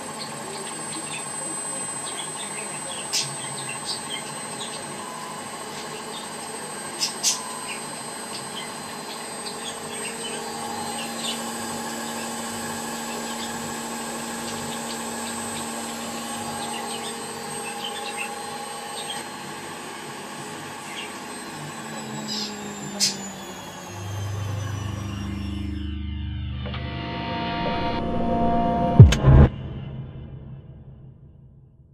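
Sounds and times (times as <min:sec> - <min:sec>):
machine humming and whining: 0:00.0 - 0:30.8.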